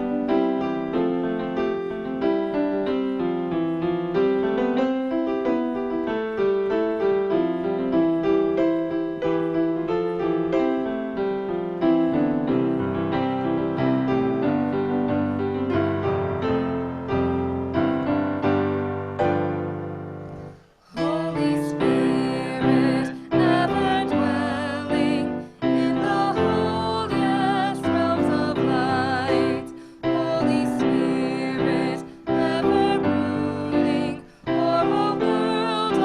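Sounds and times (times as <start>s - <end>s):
piano chords: 0.0s - 36.0s.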